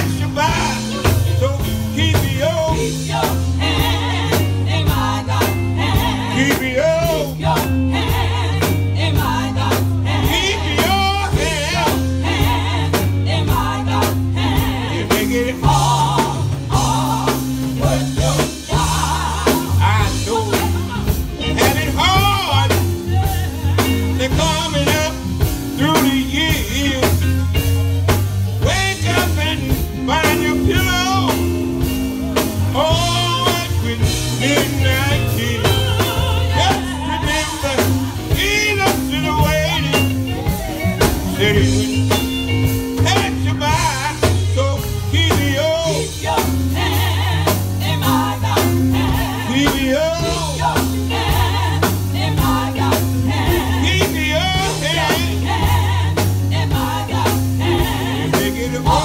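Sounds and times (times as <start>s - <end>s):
bass line: 0.0s - 59.0s
gospel singing with band: 0.0s - 59.0s
steady drumbeat: 0.0s - 59.0s.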